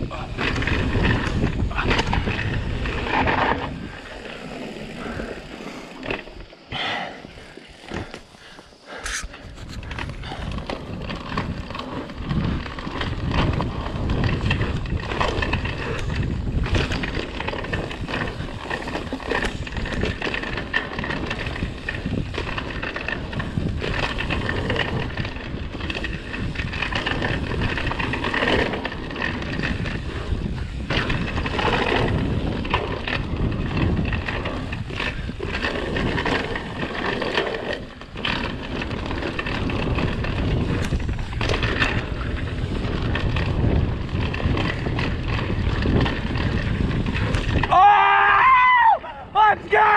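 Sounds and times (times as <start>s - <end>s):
bike rattling over bumps: 0.0s - 49.9s
bike tyres on dirt: 0.0s - 49.9s
wind buffeting microphone: 0.0s - 49.9s.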